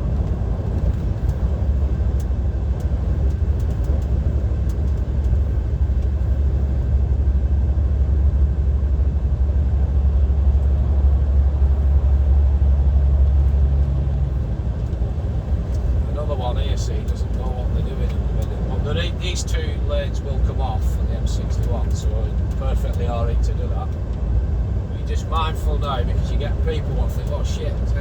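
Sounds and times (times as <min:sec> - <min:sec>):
diesel engine rumble: 0:00.0 - 0:28.0
tyre and road noise: 0:00.0 - 0:28.0.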